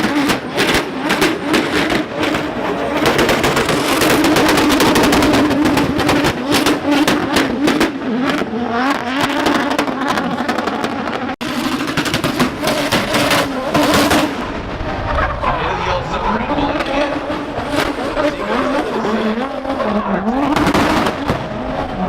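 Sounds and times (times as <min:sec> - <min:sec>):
car engine revving hard: 0:00.0 - 0:14.7, 0:16.1 - 0:22.0.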